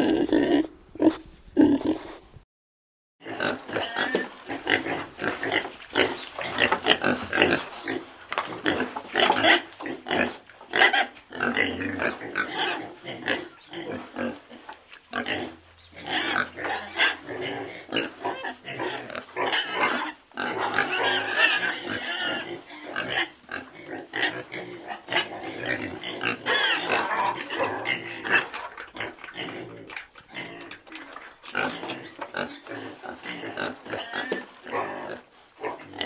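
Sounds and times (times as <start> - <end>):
pigs grunting and squealing: 0.0 - 2.2, 3.2 - 36.0.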